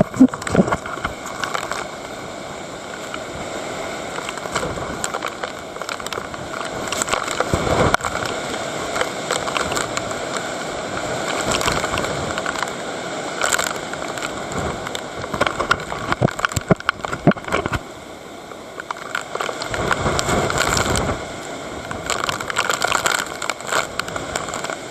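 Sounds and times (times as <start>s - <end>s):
strong wind gusting on microphone: 0.0s - 18.0s, 18.7s - 24.9s
crackling spray noise: 0.0s - 24.9s.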